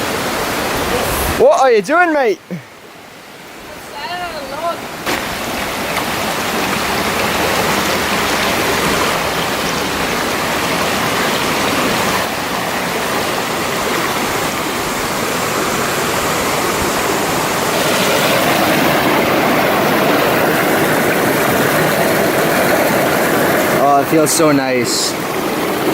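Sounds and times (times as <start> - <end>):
waterfall roaring: 0.0 - 25.9.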